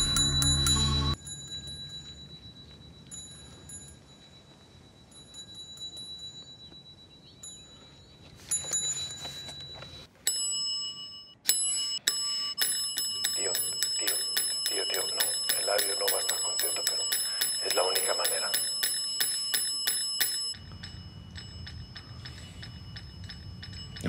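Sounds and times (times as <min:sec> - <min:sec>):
service bell dinging: 0:00.0 - 0:24.0.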